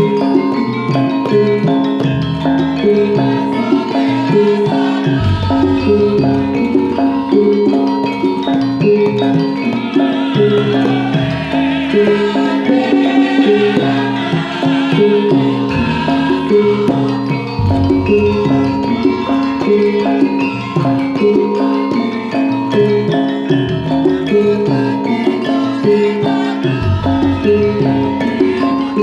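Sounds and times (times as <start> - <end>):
drum strokes: 0.0 - 10.1, 10.9 - 25.4, 26.7 - 29.0
metallophones ringing a melody: 0.0 - 29.0.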